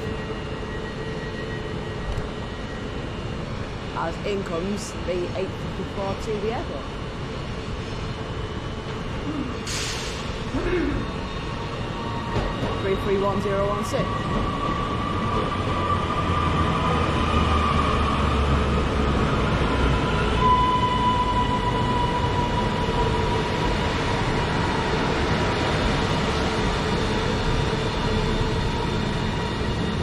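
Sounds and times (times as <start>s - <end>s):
electric train low rumble: 0.0s - 30.0s.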